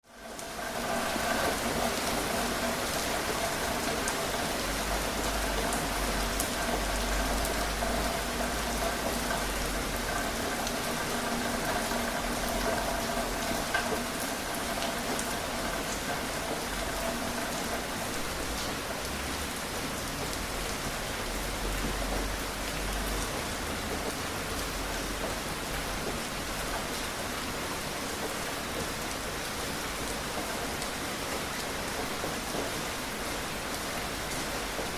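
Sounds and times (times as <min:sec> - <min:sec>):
steady rain falling: 0:00.0 - 0:34.9
raindrops ticking: 0:00.2 - 0:34.9.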